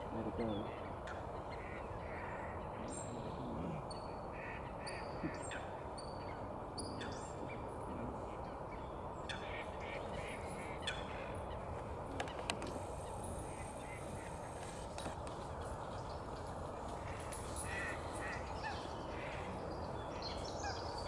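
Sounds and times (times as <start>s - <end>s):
background hiss: 1.6s - 21.0s.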